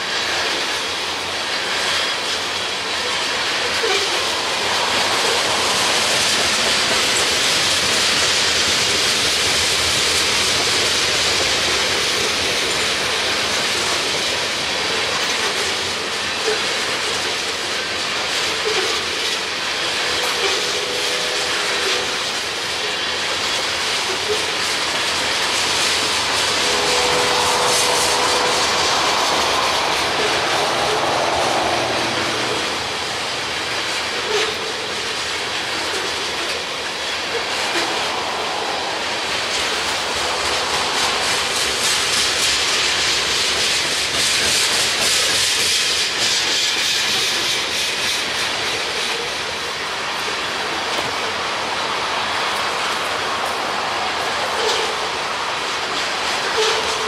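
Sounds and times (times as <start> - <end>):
freight train cars rolling: 0.0 - 57.0.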